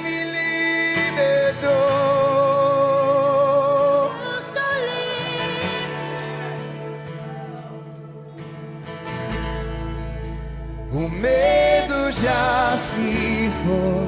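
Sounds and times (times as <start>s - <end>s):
person singing: 0.0s - 8.3s, 10.9s - 14.0s
acoustic guitar: 0.0s - 14.0s.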